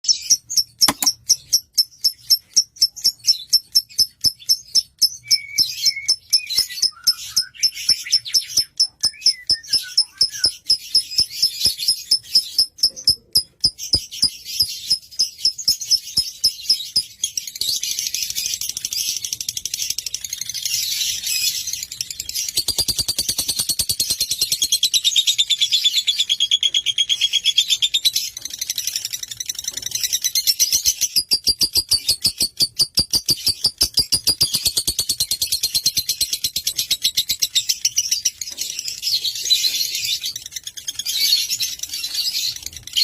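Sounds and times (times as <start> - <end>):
lovebird chirping: 0.0 - 43.0.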